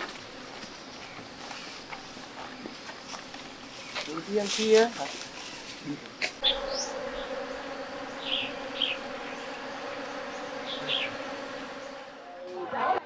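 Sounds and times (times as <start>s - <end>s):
insect buzzing: 0.0s - 12.9s.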